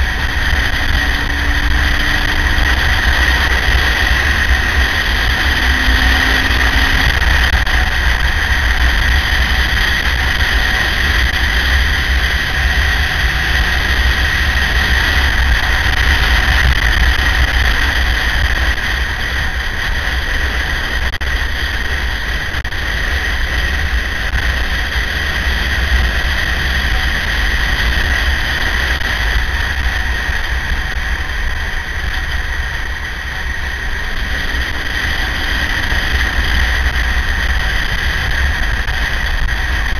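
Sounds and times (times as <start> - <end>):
high-pitched whine: 0.0 - 39.9
motorcycle running: 0.0 - 39.9
wind rumble on microphone: 0.0 - 39.9.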